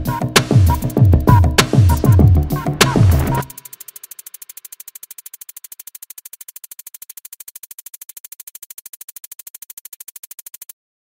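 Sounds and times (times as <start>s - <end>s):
synthesizer tone pulsing rapidly: 0.0s - 10.7s.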